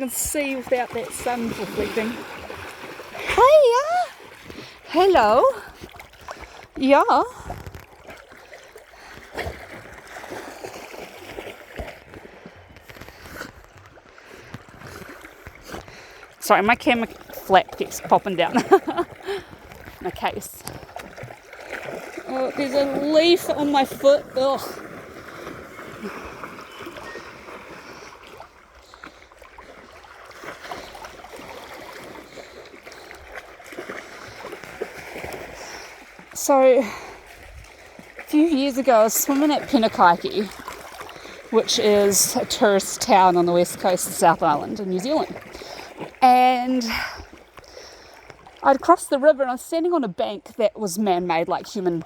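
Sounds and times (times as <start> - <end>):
water sloshing around wading legs: 0.0 - 52.0.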